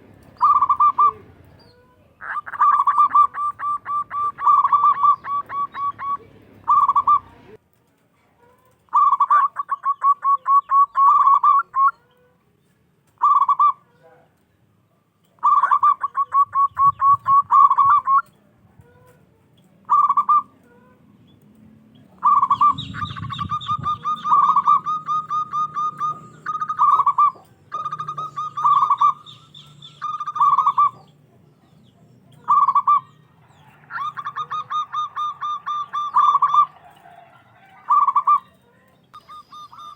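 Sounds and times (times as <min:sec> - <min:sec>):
dove cooing song: 0:00.0 - 0:07.6, 0:08.6 - 0:12.4, 0:13.1 - 0:14.3, 0:15.2 - 0:21.0, 0:22.0 - 0:39.9.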